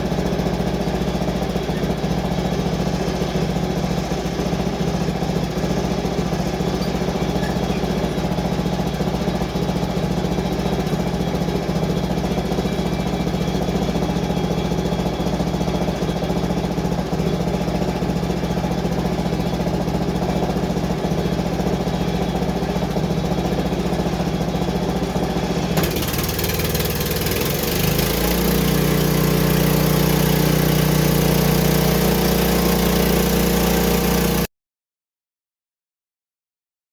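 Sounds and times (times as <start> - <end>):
small gasoline engine running: 0.0 - 34.5.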